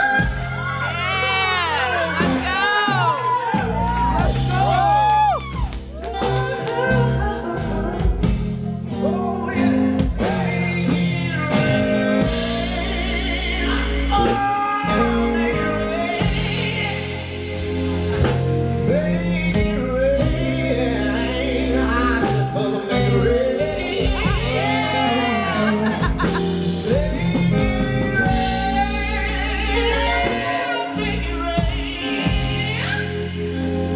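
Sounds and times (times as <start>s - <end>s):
bending lead melody: 0.0s - 33.9s
live band playing bluesy song: 0.0s - 33.9s.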